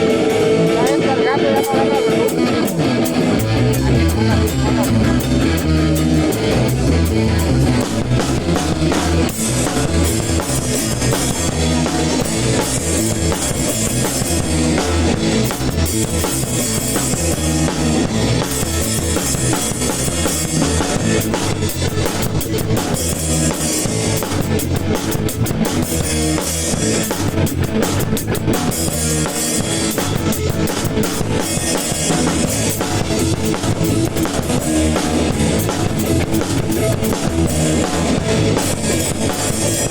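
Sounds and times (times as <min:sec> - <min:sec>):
acoustic drum kit: 0:00.0 - 0:39.9
band playing ska: 0:00.0 - 0:39.9
guitar: 0:00.0 - 0:39.9.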